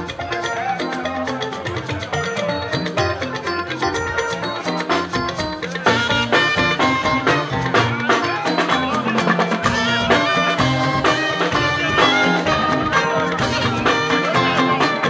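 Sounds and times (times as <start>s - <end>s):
drums beating: 0.0s - 15.0s
live band music: 0.0s - 15.0s.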